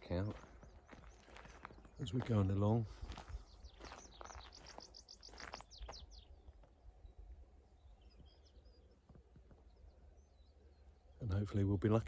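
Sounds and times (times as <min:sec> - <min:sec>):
wild bird song: 0:00.0 - 0:12.0.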